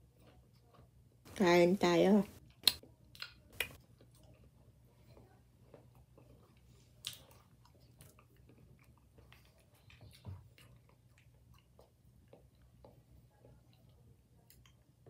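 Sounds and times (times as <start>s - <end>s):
chewing fruit: 0.0s - 1.2s, 2.4s - 15.0s.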